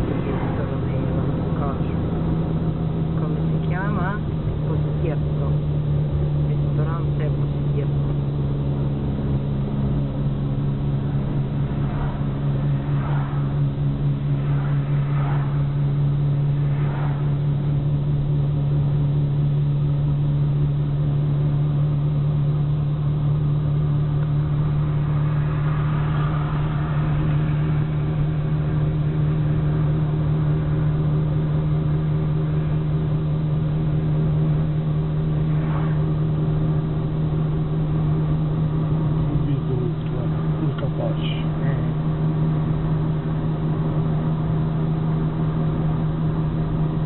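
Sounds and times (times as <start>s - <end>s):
low engine drone: 0.0s - 47.0s
road noise: 0.0s - 47.0s.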